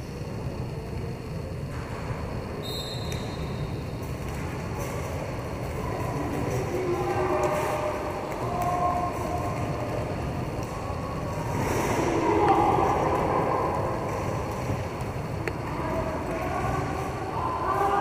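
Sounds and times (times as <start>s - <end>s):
skate wheels rolling on rink floor: 0.0s - 18.0s.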